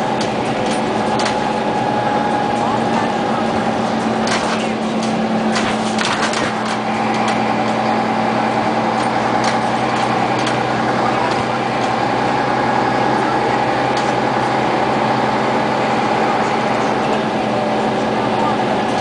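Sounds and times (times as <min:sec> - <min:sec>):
bus body rattling: 0:00.0 - 0:19.0
bus engine drone: 0:00.0 - 0:19.0
road noise: 0:00.0 - 0:19.0.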